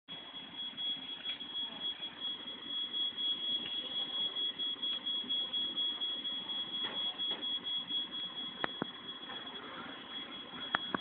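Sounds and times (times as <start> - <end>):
smoke alarm tone: 0.1 - 11.0.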